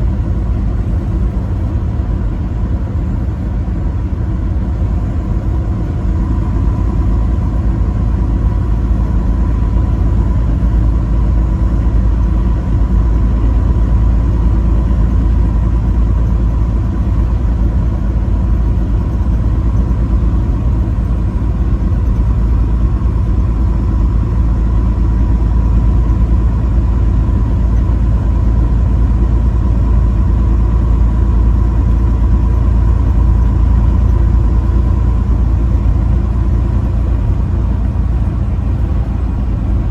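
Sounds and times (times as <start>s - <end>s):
faint steady whine: 0.0s - 39.9s
vehicle engine and road rumble: 0.0s - 39.9s.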